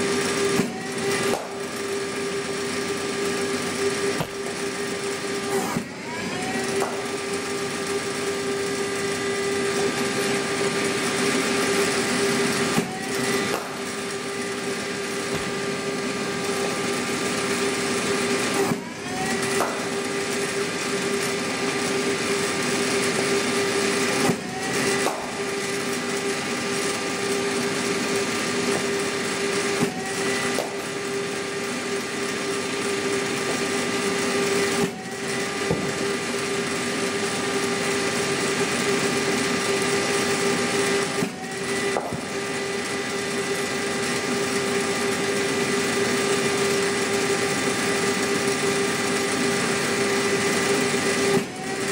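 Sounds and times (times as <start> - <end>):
bowling machine wheels spinning: 0.0 - 51.8.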